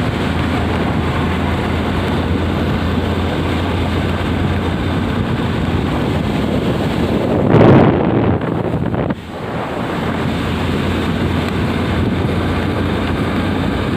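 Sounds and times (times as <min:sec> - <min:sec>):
vehicle and road hum: 0:00.0 - 0:13.9
wind rushing over microphone: 0:00.0 - 0:13.9.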